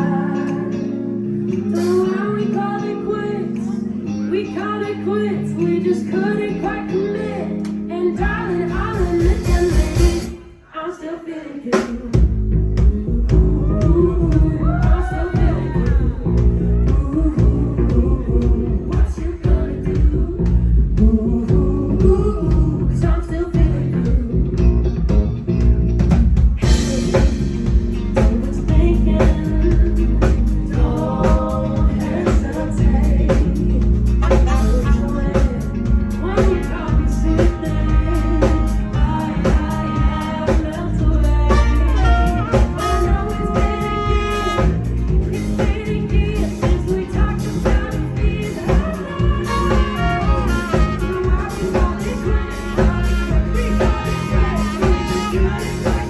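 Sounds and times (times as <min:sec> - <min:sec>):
bass guitar: 0:00.0 - 0:10.6, 0:11.8 - 0:56.0
person singing: 0:00.0 - 0:24.6, 0:26.6 - 0:56.0
drum kit beat: 0:08.2 - 0:10.4, 0:11.8 - 0:56.0.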